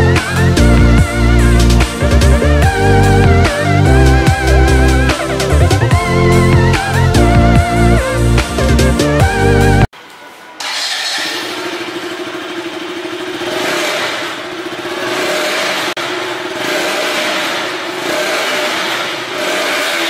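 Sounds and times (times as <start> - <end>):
motorcycle engine revving: 0.0 - 9.9, 10.6 - 20.0.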